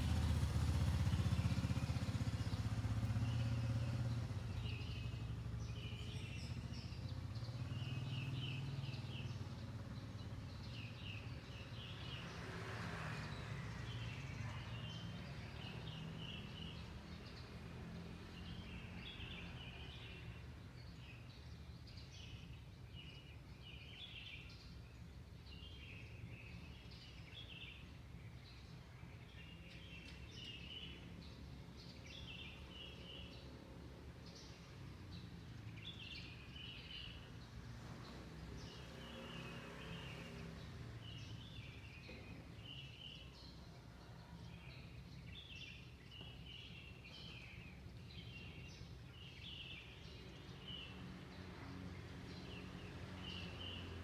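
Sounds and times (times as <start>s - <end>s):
small birds chirping: 0.0s - 12.4s, 13.3s - 54.0s.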